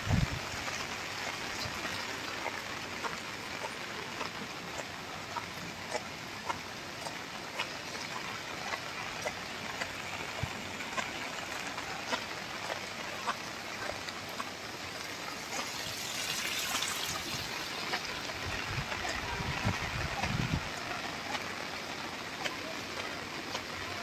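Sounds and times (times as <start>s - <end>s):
drips and splashes: 0.0s - 24.0s
heavy rain: 0.0s - 24.0s.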